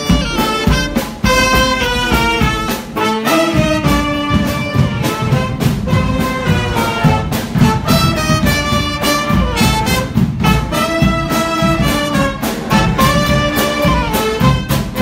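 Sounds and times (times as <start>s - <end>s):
brass band playing: 0.0s - 15.0s
steady drum beat: 0.0s - 15.0s.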